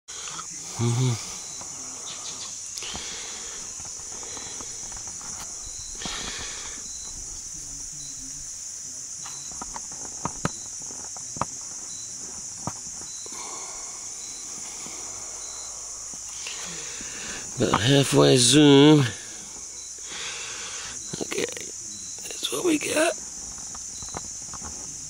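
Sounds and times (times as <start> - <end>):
insect chorus: 0.1 - 25.0.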